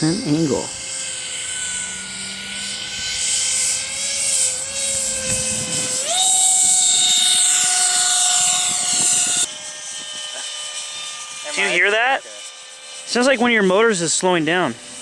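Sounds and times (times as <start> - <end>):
electric fan motors whining: 0.0 - 15.0.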